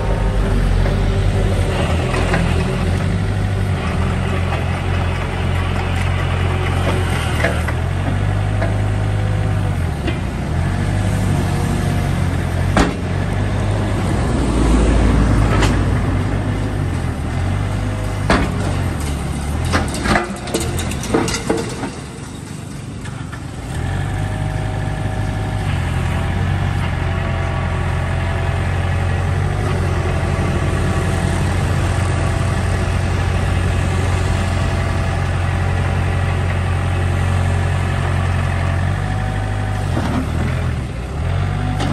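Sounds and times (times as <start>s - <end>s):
crawler tracks driving: 0.0s - 41.9s
excavator diesel engine running: 0.0s - 41.9s.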